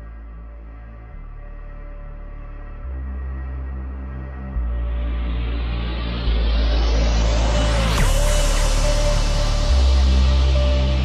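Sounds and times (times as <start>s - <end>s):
dark ambient music: 0.0s - 11.0s
low sustained bass notes: 0.0s - 11.0s.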